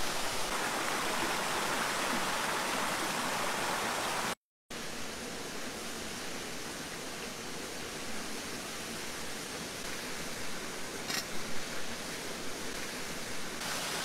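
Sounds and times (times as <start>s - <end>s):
small waterfall rushing: 0.0s - 4.4s, 5.6s - 14.0s.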